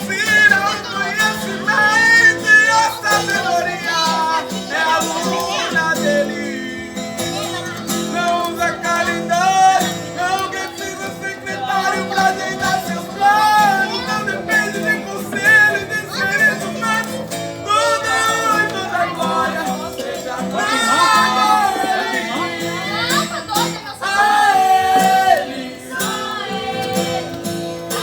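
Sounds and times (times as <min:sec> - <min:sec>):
guitar accompaniment: 0:00.0 - 0:28.0
person singing worship song: 0:00.0 - 0:28.0.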